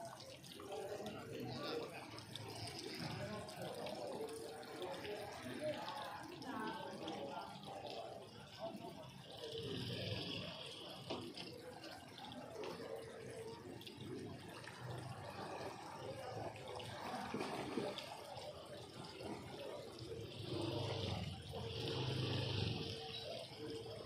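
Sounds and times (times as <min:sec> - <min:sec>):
water lapping against concrete: 0:00.0 - 0:24.0.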